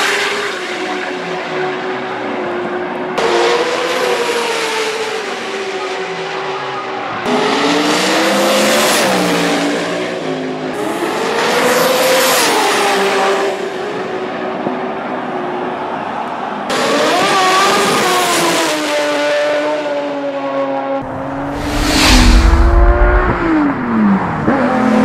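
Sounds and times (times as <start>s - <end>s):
race car engines at full throttle: 0.0s - 25.0s.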